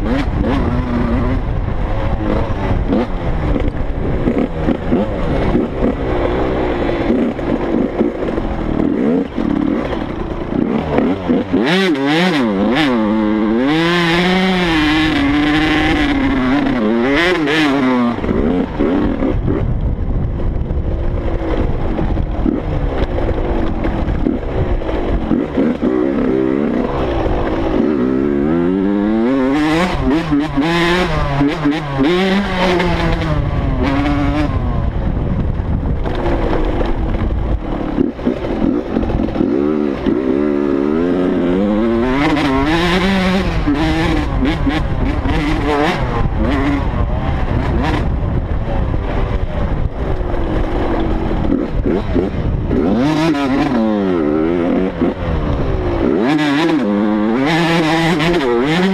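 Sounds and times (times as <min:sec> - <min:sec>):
dirt bike engine revving: 0:00.0 - 0:58.9
wind rumble on microphone: 0:00.0 - 0:58.9.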